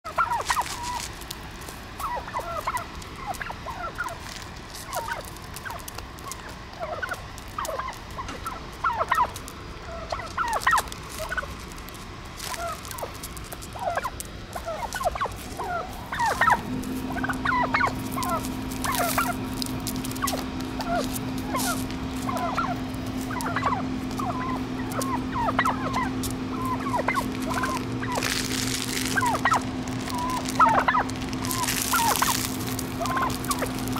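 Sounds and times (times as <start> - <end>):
low machine hum: 0.0 - 33.9
turkeys chirping: 0.0 - 33.9.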